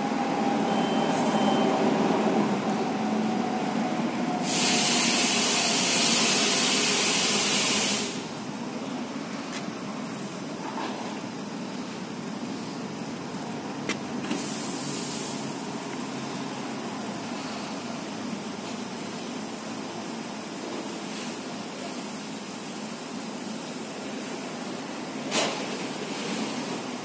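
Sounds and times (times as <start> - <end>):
loud steady hiss: 3.6 - 10.6, 11.2 - 27.0.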